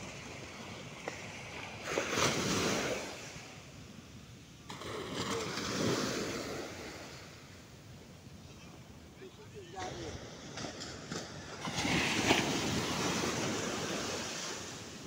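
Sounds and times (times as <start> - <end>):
surf washing up sandy beach: 0.0 - 15.0.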